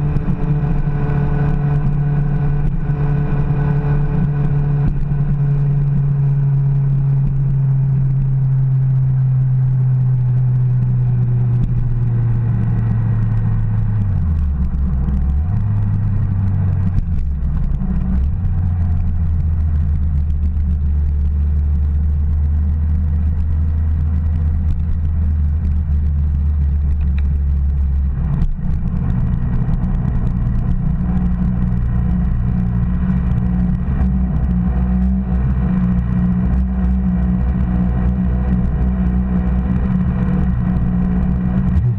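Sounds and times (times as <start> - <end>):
low rumble: 0.0 - 41.9
motorcycle engine running: 0.0 - 41.9.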